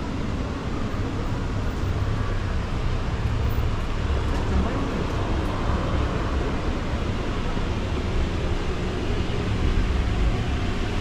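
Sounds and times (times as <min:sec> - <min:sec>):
low city background rumble: 0:00.0 - 0:11.0.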